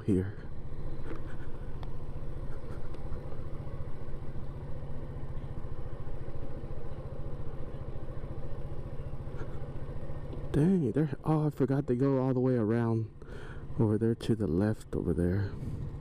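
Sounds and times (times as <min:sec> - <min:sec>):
scooter engine running: 0:00.1 - 0:16.0.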